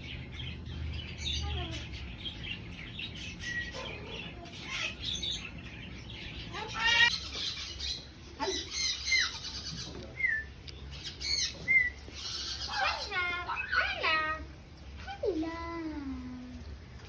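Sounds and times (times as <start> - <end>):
parrots chirping and whistling: 0.1 - 14.4.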